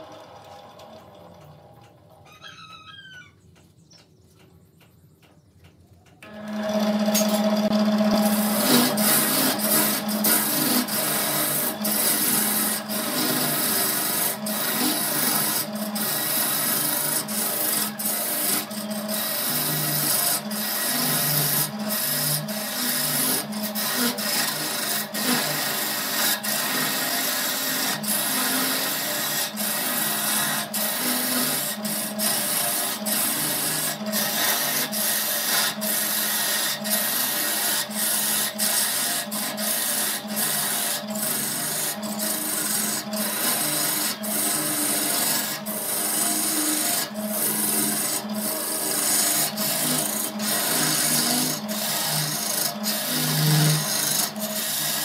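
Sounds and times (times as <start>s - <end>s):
lathe motor hum: 6.2s - 55.0s
turning tool scraping wood: 6.2s - 55.0s.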